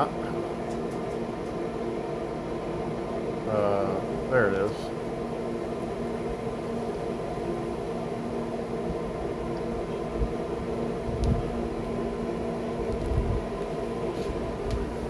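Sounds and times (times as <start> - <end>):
grill fan humming: 0.0 - 15.0.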